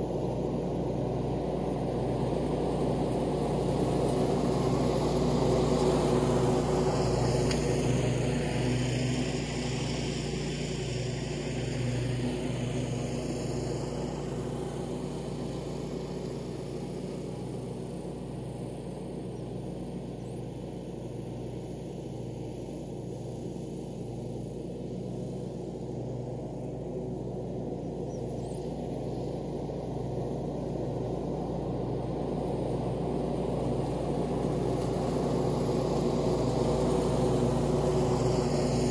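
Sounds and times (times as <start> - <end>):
riding mower cutting grass: 0.0 - 38.9.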